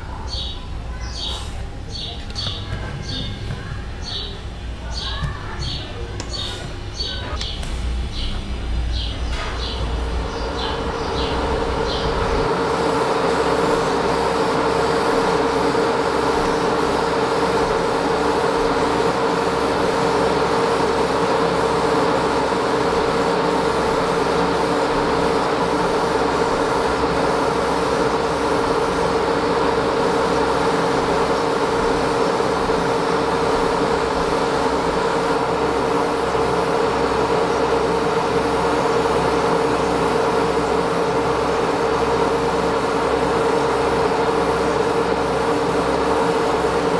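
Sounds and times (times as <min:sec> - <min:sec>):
extractor fan running: 0:00.0 - 0:46.9.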